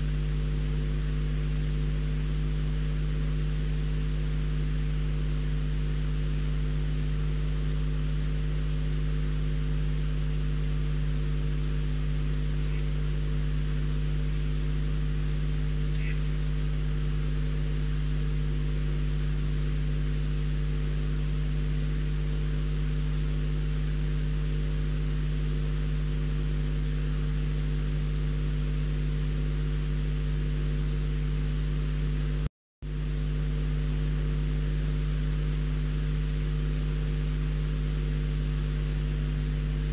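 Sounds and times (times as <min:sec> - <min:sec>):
electrical mains hum with hiss: 0:00.0 - 0:39.9.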